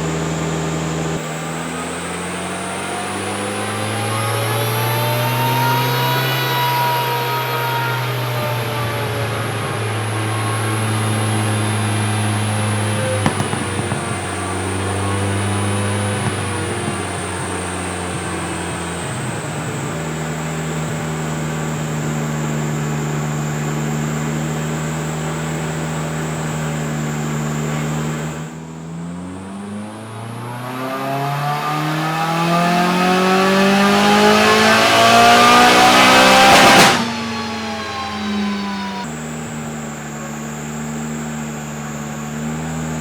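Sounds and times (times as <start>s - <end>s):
car engine revving on dyno: 0.0s - 43.0s.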